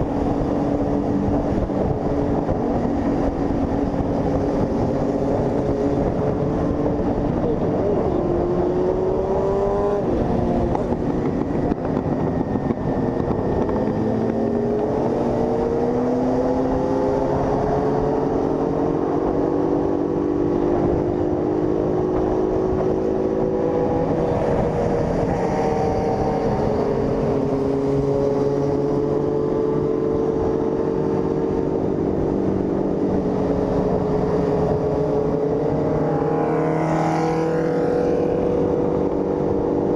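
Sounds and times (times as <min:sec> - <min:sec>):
motorcycle engine accelerating: 0:00.0 - 0:39.9
wind noise: 0:00.0 - 0:39.9.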